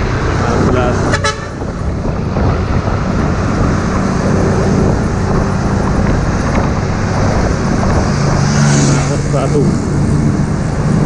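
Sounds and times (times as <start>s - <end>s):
diesel truck engine running: 0.0s - 11.0s
road and traffic noise: 0.0s - 11.0s.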